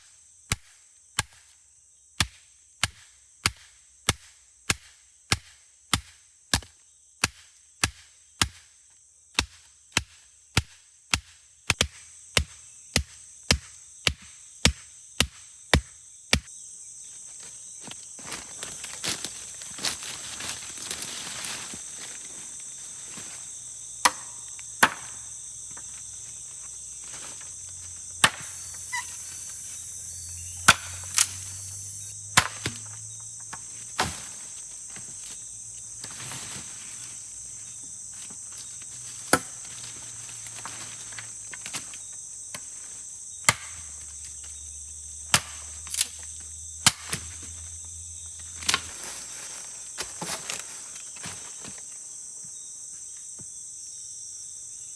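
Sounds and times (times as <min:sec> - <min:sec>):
forest insects chorus: 0:00.0 - 0:54.9.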